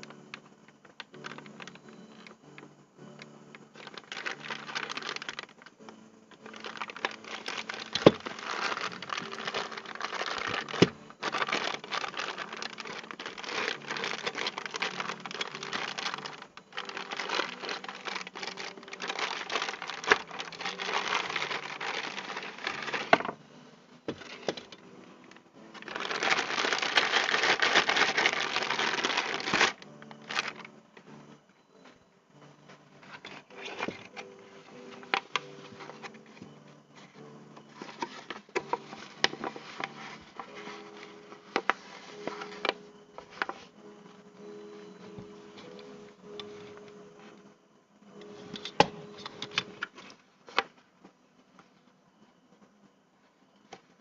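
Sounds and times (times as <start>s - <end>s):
plastic packaging crinkling: 0.0s - 23.4s, 24.1s - 24.9s, 25.6s - 30.8s, 33.0s - 47.4s, 48.2s - 50.8s.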